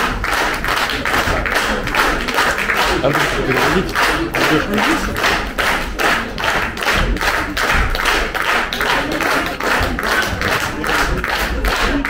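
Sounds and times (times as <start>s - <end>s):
audience clapping in unison: 0.0s - 12.0s.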